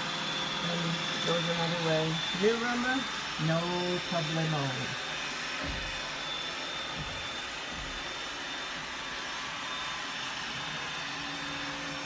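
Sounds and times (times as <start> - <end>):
robot vacuum cleaner whirring: 0.0 - 12.0.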